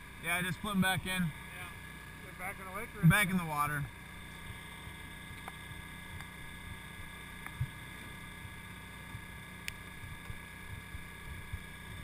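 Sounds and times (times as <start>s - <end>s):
boat motors humming: 0.0s - 12.0s.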